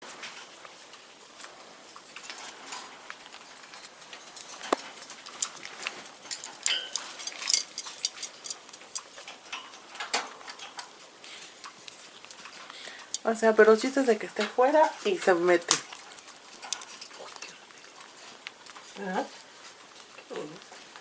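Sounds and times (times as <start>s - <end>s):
parrot beak chewing a toy: 0.2s - 21.0s.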